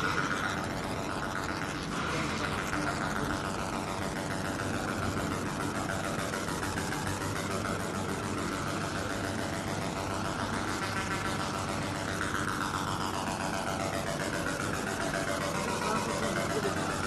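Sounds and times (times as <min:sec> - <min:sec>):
fast dense buzz: 0:00.0 - 0:17.0
machine hum: 0:00.0 - 0:17.0.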